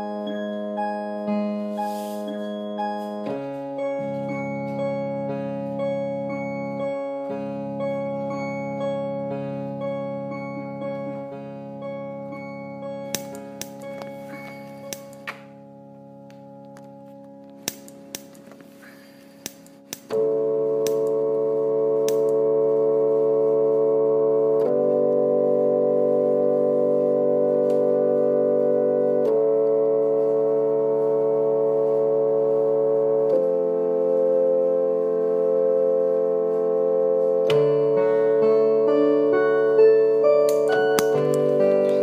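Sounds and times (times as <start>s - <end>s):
keyboard held chords: 0.0s - 42.0s.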